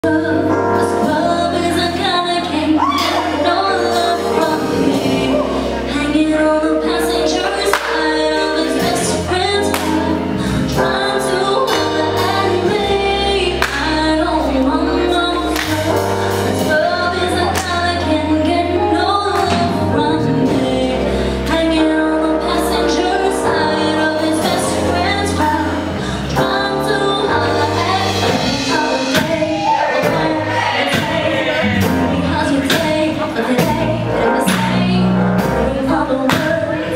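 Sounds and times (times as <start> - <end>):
live band playing: 0.0 - 36.9
woman singing: 0.0 - 36.9.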